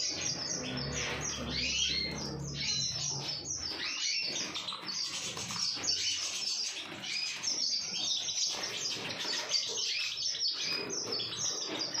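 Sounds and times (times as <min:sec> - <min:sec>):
canaries chirping and twittering: 0:00.0 - 0:12.0.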